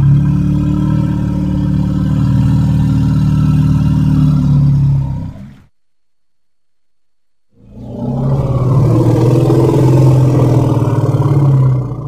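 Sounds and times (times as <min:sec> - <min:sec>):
long low rough animal call: 0:00.0 - 0:05.7, 0:07.6 - 0:12.0.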